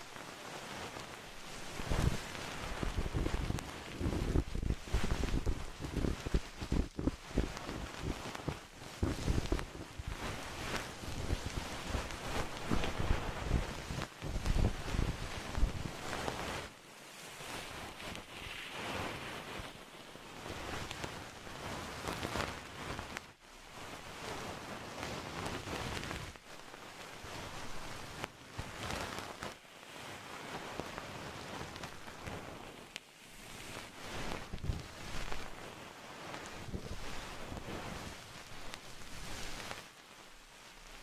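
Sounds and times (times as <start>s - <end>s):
close rustling or brushing: 0.0s - 41.0s.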